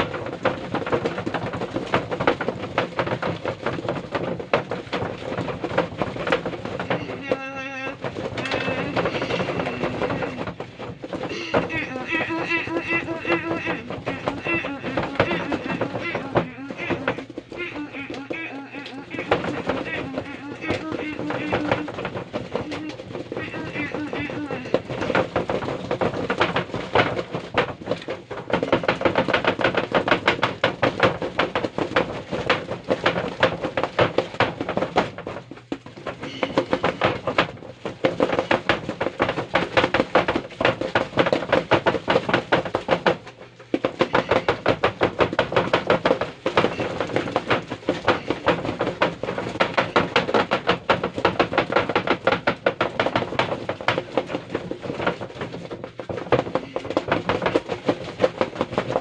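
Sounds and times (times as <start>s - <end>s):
cardboard box rattling on table: 0.0s - 59.0s.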